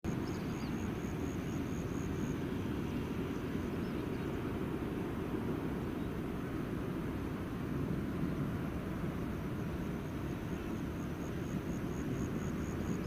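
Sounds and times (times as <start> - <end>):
jet airliner rumble: 0.1 - 13.0.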